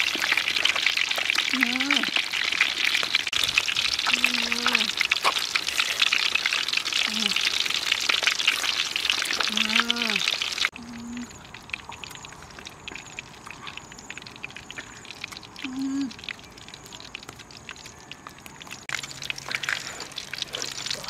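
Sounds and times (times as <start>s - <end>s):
hot oil sizzling around fish: 0.0s - 21.0s.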